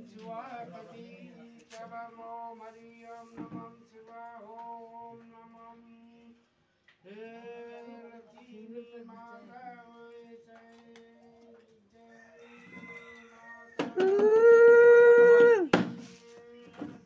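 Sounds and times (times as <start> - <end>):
faint singing: 0.0 - 17.0.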